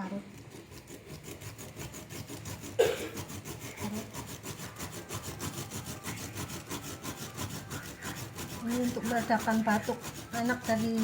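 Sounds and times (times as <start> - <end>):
ginger rubbed on a hand grater: 0.0 - 11.0.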